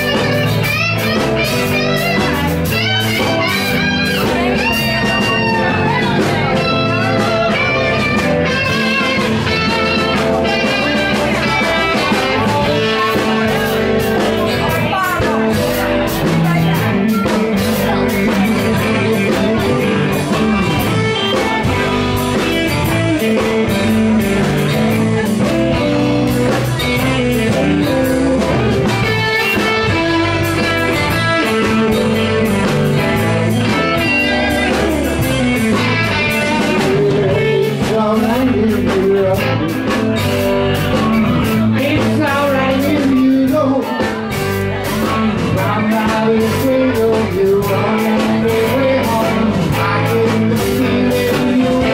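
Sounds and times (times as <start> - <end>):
acoustic guitar: 0.0 - 51.9
bass guitar: 0.0 - 51.9
drum kit beat: 0.0 - 51.9
electric guitars: 0.0 - 51.9.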